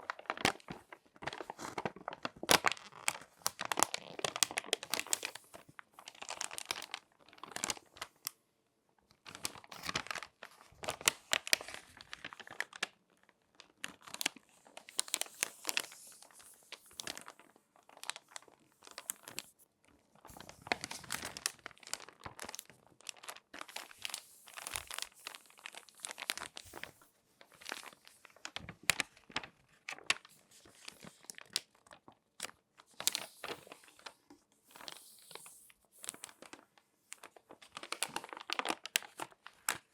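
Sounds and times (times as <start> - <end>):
magazine pages crinkling: 0.0 - 8.4, 9.3 - 39.9.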